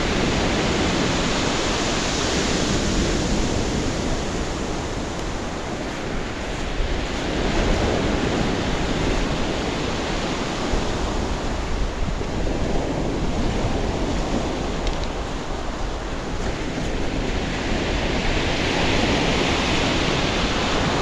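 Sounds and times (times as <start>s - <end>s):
surf washing up pebble beach: 0.0s - 21.0s
wind buffeting microphone: 0.0s - 21.0s.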